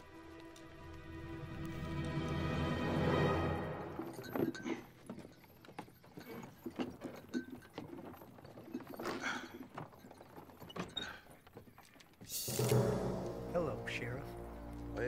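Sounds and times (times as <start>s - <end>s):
hooves clip-clopping: 0.0s - 15.0s.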